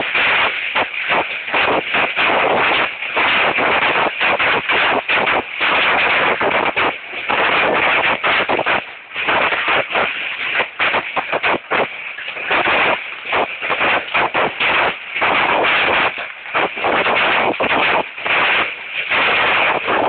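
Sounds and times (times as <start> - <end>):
hailstones pelting hard surfaces: 0.0 - 20.0.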